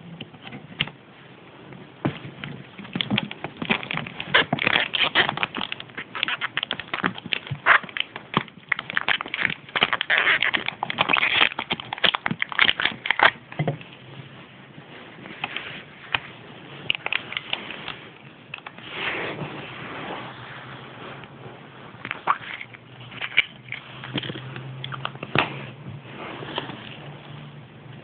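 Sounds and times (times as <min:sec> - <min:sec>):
plastic packaging crinkling: 0:02.1 - 0:14.0, 0:15.0 - 0:27.3.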